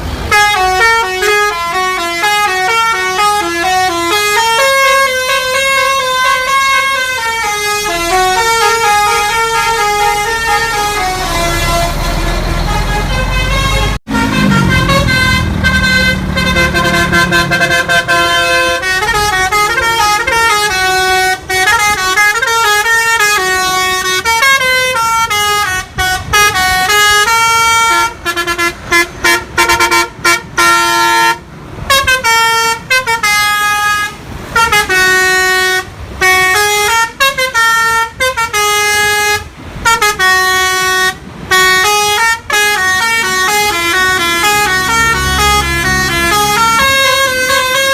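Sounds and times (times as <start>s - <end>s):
multi-tone bus horn melody: 0.0s - 47.9s.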